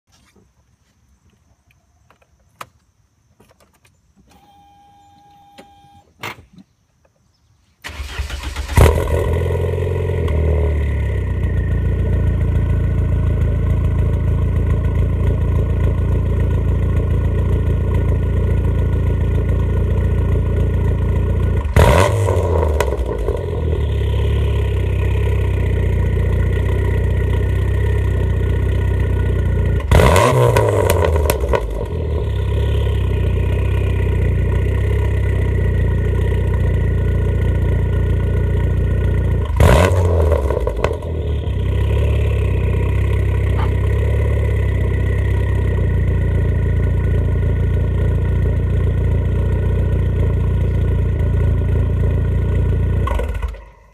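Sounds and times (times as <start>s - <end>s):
car engine idling and revving: 7.9s - 53.9s.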